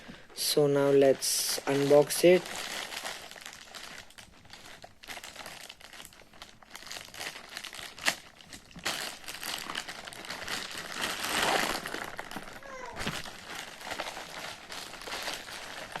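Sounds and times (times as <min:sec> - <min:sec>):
packaging crinkling and rustling: 0:00.3 - 0:16.0.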